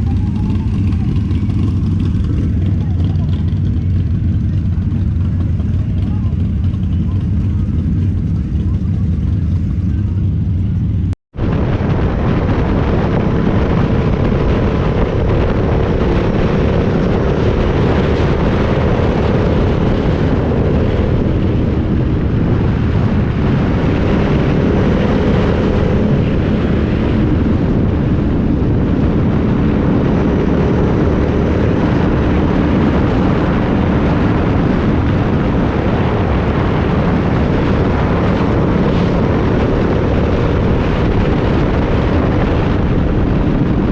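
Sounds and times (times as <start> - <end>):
motorcycle engine drone: 0.0 - 43.9
wind noise on microphone: 0.0 - 43.9.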